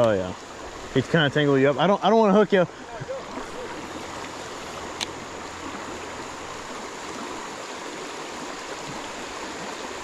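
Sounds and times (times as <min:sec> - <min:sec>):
creek water running over rocks: 0:00.0 - 0:10.0.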